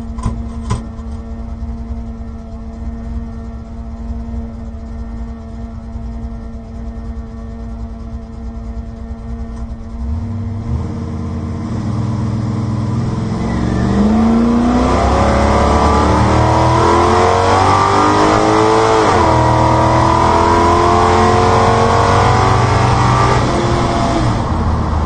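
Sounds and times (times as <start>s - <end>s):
drag car engine revving: 0.0s - 25.0s.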